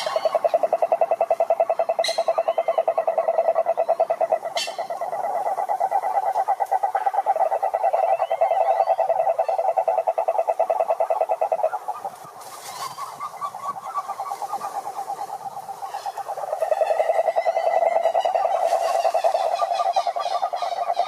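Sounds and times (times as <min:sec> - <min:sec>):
frog pulsing trill: 0:00.0 - 0:12.1, 0:15.4 - 0:21.0
frog chirps: 0:00.0 - 0:21.0
sharp frog calls: 0:00.0 - 0:21.0.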